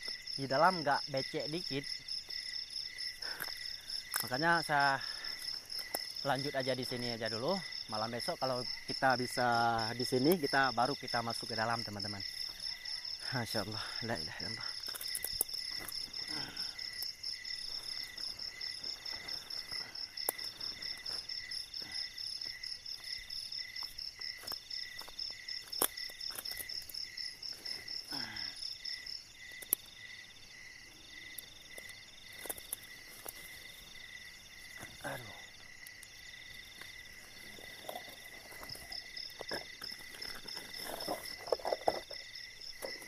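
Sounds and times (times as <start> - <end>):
night insects chirping: 0.0 - 43.0.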